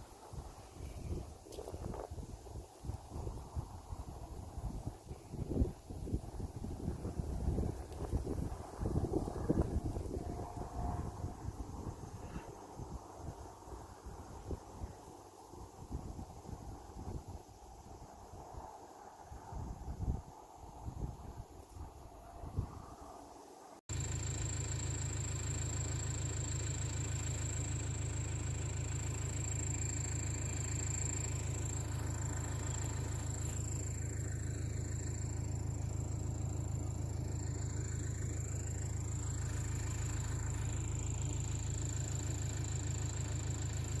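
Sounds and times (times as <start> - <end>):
low engine rumble: 0.0 - 44.0.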